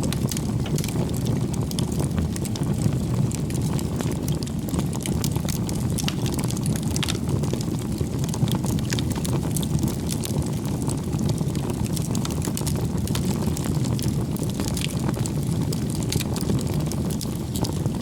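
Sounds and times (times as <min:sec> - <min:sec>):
bonfire flames rushing: 0:00.0 - 0:18.0
wood crackling and popping: 0:00.0 - 0:18.0.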